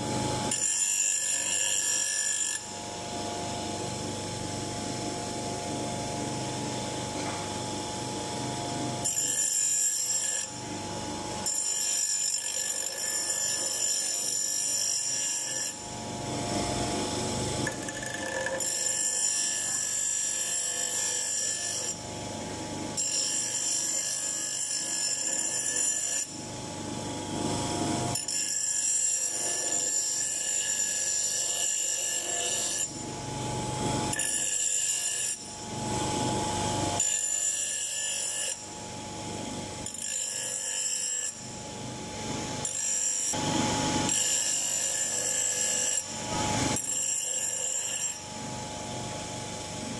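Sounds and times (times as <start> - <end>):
bench grinder whine: 0.0 - 49.9.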